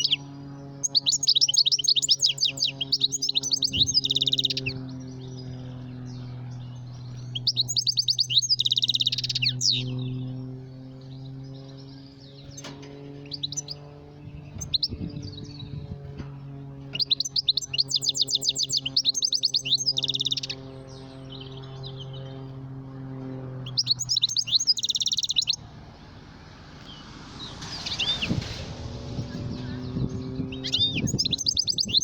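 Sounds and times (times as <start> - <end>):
goldfinch twittering trills: 0.0 - 10.4, 11.0 - 16.2, 16.8 - 22.6, 23.6 - 25.7, 26.8 - 32.0
low mechanical hum: 0.0 - 32.0.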